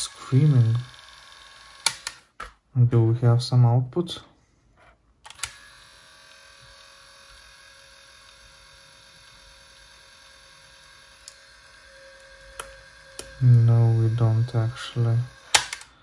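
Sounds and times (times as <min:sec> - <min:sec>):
cassette player motor whine: 0:00.0 - 0:02.3, 0:05.3 - 0:16.0.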